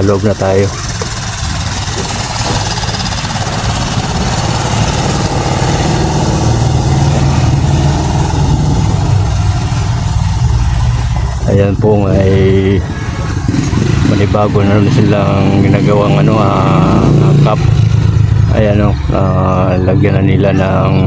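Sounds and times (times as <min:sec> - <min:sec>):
engine running with low pulsing: 0:00.0 - 0:21.0.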